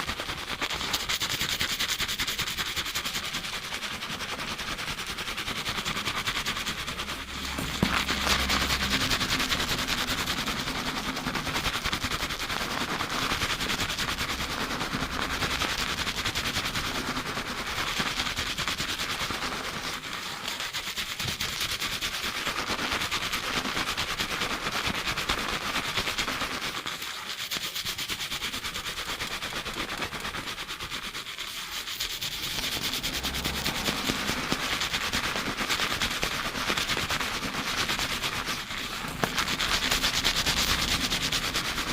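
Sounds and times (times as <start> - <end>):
fingers scrubbing lathered hair: 0.0 - 41.9.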